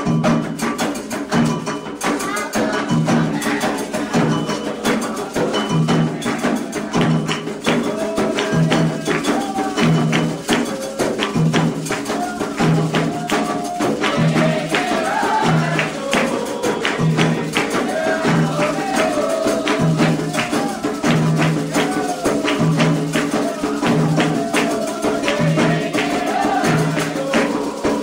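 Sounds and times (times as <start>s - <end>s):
hand drums: 0.0s - 28.0s
metal bell or rattle: 0.0s - 28.0s
voices singing: 0.8s - 28.0s.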